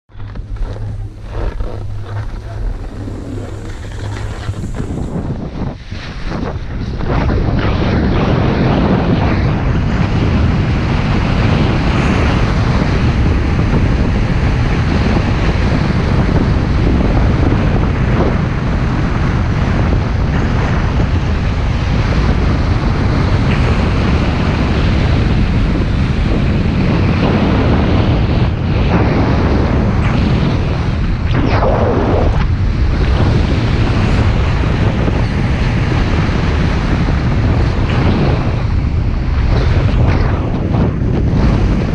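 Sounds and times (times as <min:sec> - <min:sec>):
heavy wind on microphone: 0:00.0 - 0:41.9.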